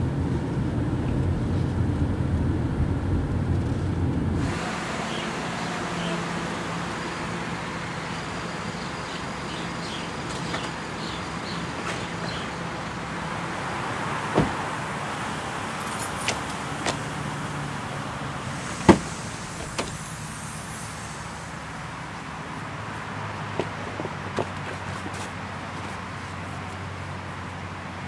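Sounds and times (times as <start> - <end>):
car engine running: 0.0 - 27.8.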